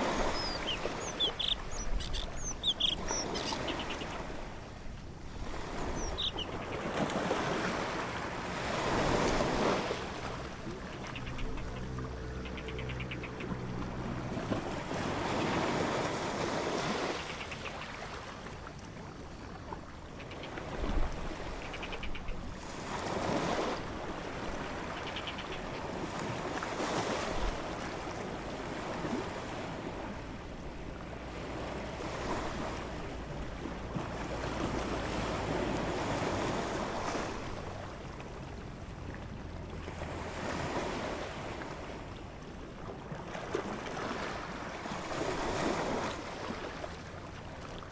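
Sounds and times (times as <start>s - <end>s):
ocean waves washing: 0.0s - 47.9s.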